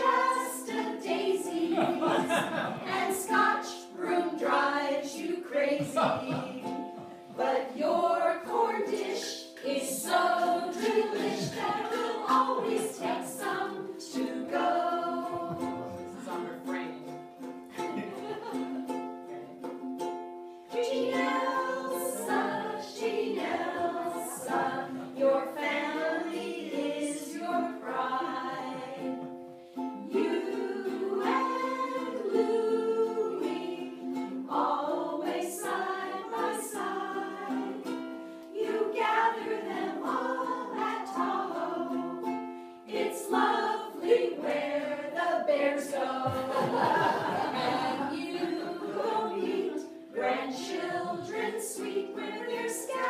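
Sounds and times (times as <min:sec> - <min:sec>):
women's chorus singing: 0:00.0 - 0:16.8, 0:20.7 - 0:29.4, 0:30.0 - 0:53.0
strummed ukulele: 0:00.0 - 0:53.0.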